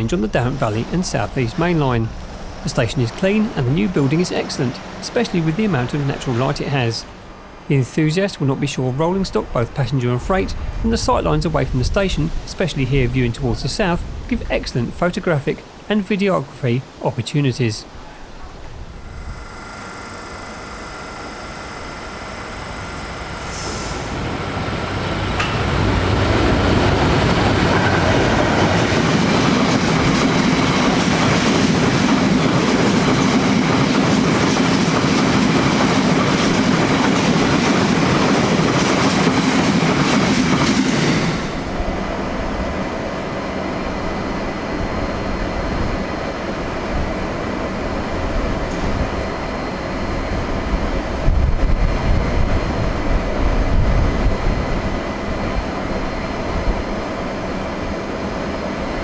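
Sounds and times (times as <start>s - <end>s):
diesel locomotive passing: 0.0s - 15.9s, 17.9s - 59.0s
electric train arriving: 0.0s - 59.0s.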